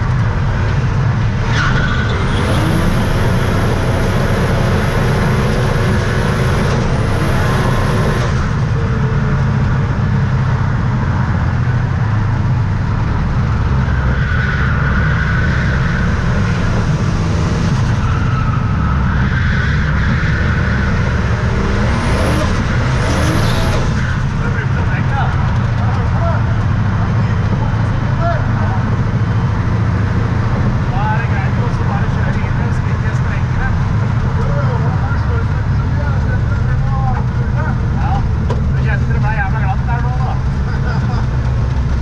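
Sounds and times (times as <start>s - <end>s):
car engine deep rumble: 0.0s - 42.0s.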